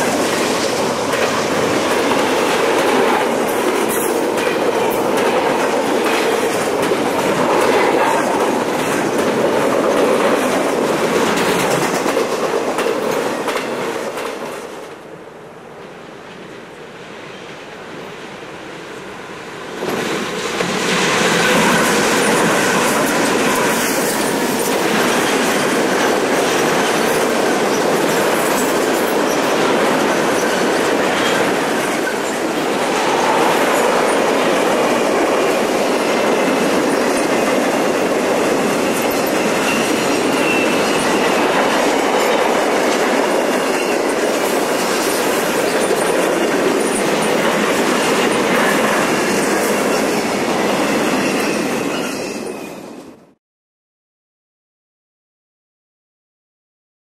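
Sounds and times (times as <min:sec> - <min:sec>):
steel wheels clattering over rails: 0:00.0 - 0:14.7, 0:19.8 - 0:52.7
freight train passing: 0:00.0 - 0:53.4.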